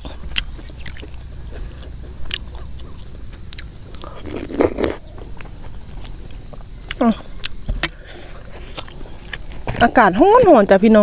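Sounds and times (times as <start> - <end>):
crunchy chewing: 0.0 - 9.8.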